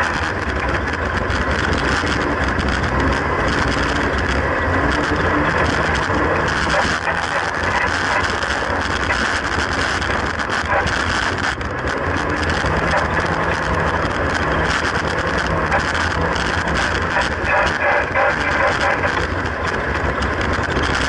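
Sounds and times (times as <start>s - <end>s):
car engine running: 0.0s - 21.0s
wind and road noise: 0.0s - 21.0s.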